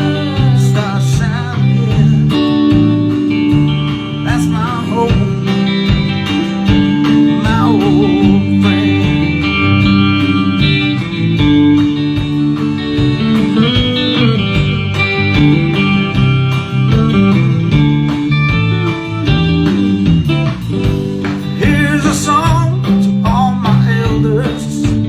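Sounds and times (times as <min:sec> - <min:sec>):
bass: 0:00.0 - 0:25.0
lead guitar: 0:00.0 - 0:25.0
steady drum beat: 0:00.0 - 0:25.0.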